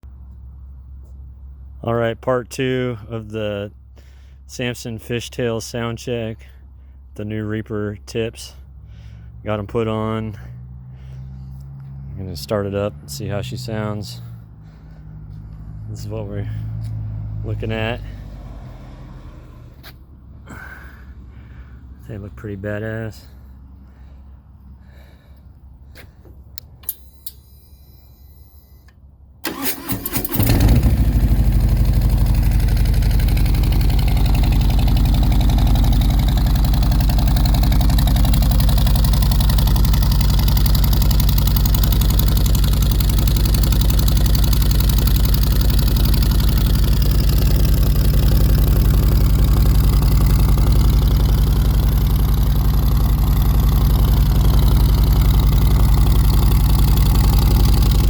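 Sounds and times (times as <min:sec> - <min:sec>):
motorcycle engine starting and idling: 0:02.6 - 0:58.0.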